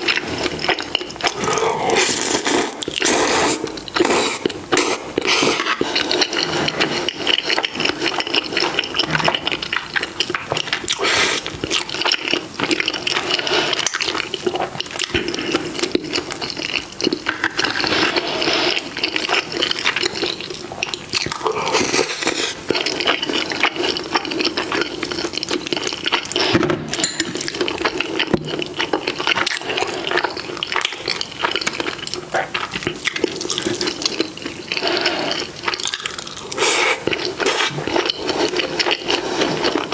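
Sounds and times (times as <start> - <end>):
wet chewing and slurping: 0.0 - 39.9.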